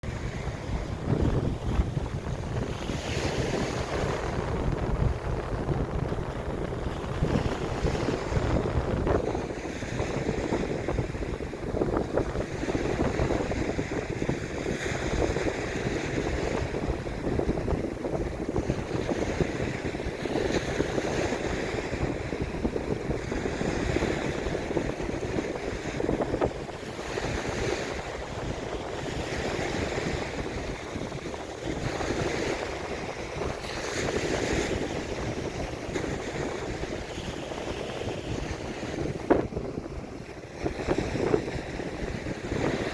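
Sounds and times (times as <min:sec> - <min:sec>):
ocean waves breaking: 0:00.0 - 0:42.9
wind buffeting microphone: 0:00.0 - 0:42.9.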